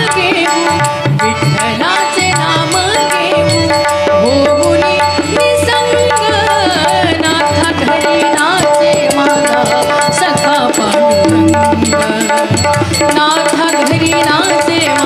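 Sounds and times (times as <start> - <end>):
hand drums: 0.0 - 15.0
harmonium melody: 0.0 - 15.0.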